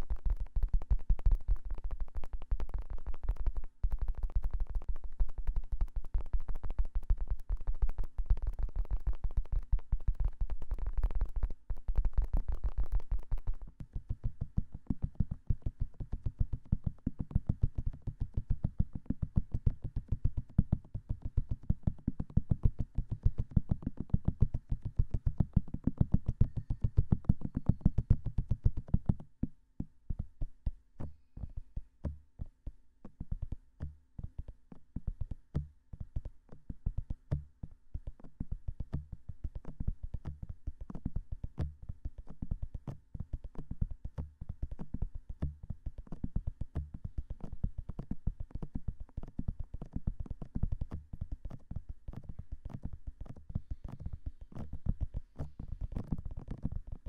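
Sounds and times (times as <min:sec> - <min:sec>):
fingertips tapping on microphone: 0:00.0 - 0:57.0.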